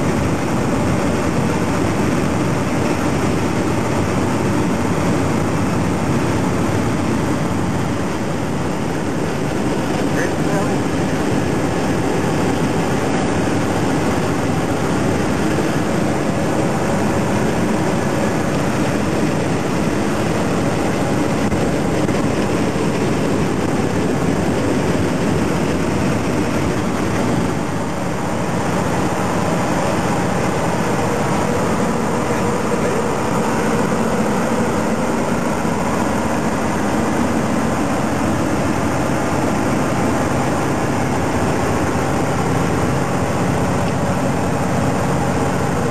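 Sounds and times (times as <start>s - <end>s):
road noise: 0.0s - 45.9s
truck diesel engine drone: 0.0s - 45.9s.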